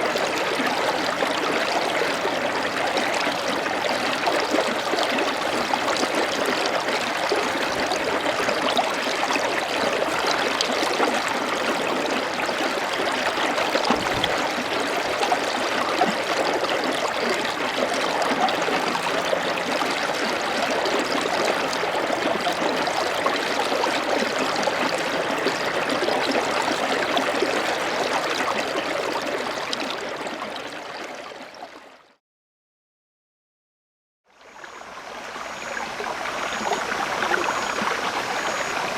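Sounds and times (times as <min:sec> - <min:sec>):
running water rushing: 0:00.0 - 0:30.9, 0:34.6 - 0:38.9.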